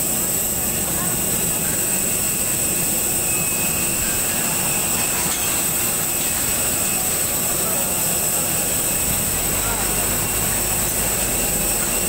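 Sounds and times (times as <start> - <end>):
jet turbine whining rush: 0.0 - 12.0.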